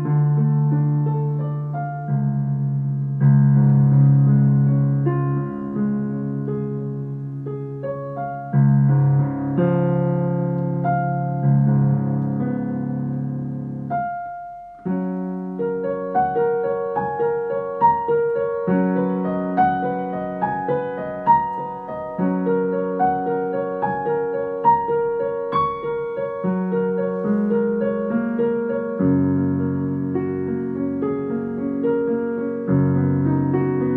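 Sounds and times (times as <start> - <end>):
solo piano music: 0.0 - 33.9.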